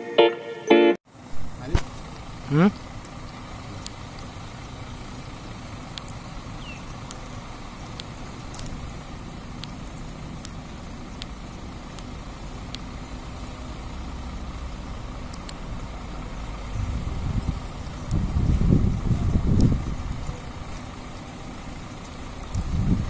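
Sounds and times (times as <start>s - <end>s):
bus diesel engine rumbling: 0.0s - 23.0s.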